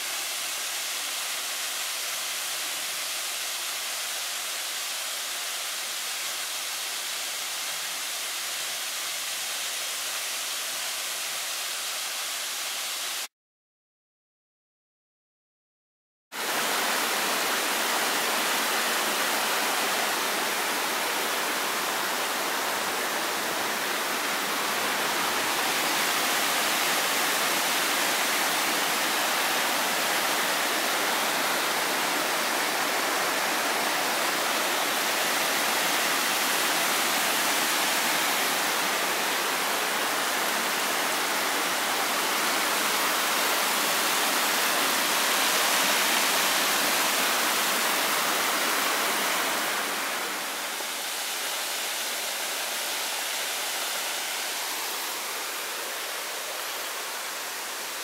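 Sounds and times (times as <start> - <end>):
small waterfall rushing: 0.0 - 13.3, 16.4 - 58.0.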